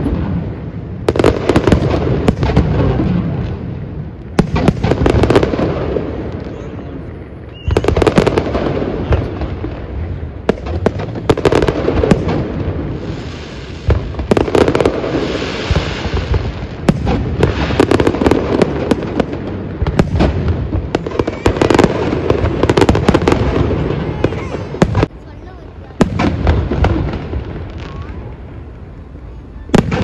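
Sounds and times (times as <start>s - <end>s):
firework crackling hiss: 0.0s - 30.0s.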